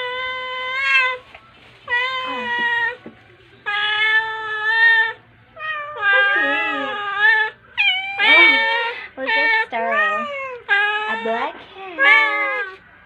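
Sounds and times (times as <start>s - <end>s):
cat meowing: 0.0s - 1.2s, 1.9s - 3.0s, 3.6s - 12.9s.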